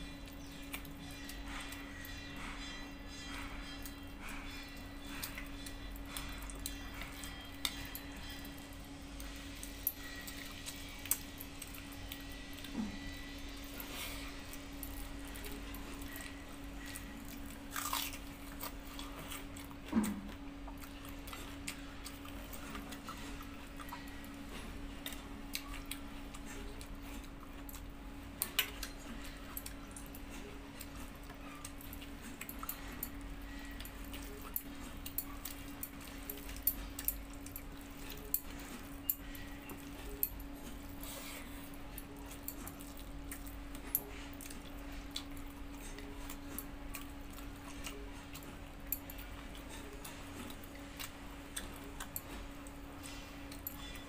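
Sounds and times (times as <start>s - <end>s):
steady low hum: 0.0s - 54.0s
chewing smacks: 3.4s - 54.0s.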